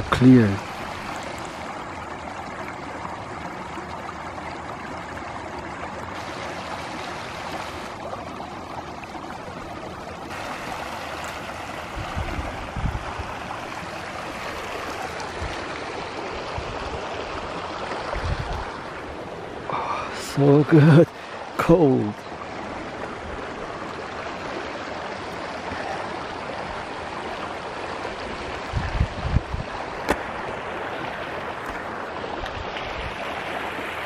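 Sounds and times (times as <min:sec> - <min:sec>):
creek water babbling over rocks: 0:00.0 - 0:34.0.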